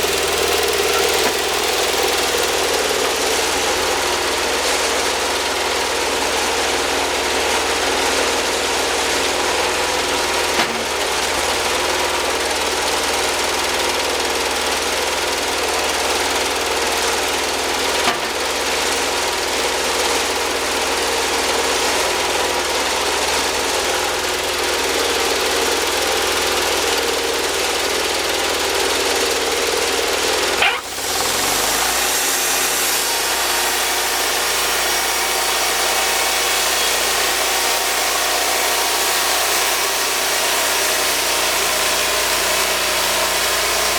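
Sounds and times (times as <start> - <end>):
band sawmill droning: 0.0 - 23.7, 24.6 - 43.9.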